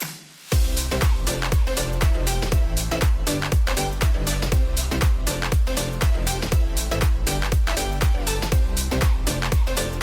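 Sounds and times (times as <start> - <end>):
upbeat electronic music: 0.0 - 10.0
deep kick drum: 0.5 - 10.0.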